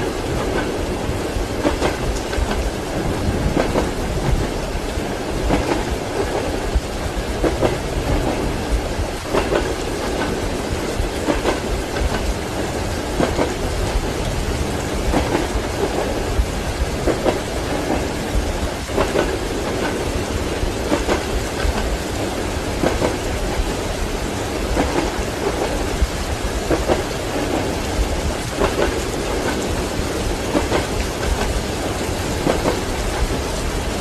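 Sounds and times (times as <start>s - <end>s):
continuous train rumble: 0.0s - 34.0s
steady rain: 0.0s - 34.0s
train wheels clacking over rails: 0.0s - 34.0s.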